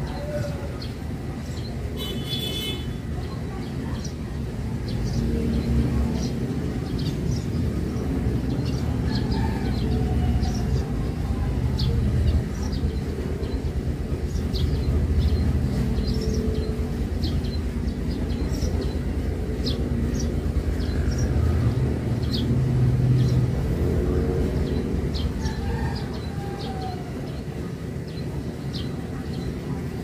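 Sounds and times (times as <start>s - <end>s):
small birds chirping: 0.0s - 30.0s
steady low rumble: 3.0s - 30.0s.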